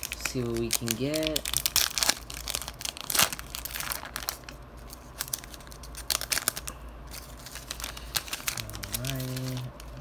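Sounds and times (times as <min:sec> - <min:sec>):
foil pack crinkling: 0:00.0 - 0:10.0.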